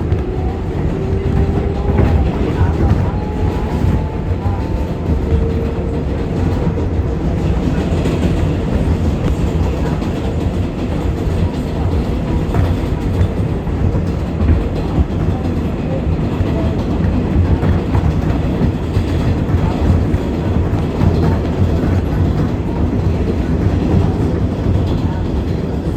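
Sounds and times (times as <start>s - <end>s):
subway train wheels rumbling on rails: 0.0s - 25.9s.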